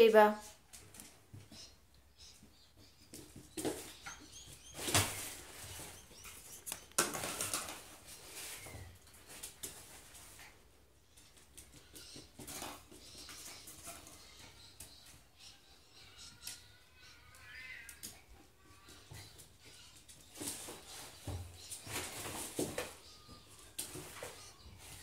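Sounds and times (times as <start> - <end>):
animals scuffling and scrabbling: 0.4 - 25.0.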